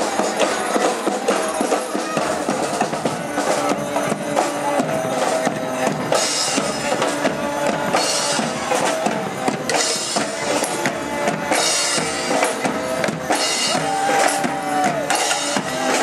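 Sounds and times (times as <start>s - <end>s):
horns holding notes: 0.0s - 16.0s
bass drum beat: 1.2s - 16.0s.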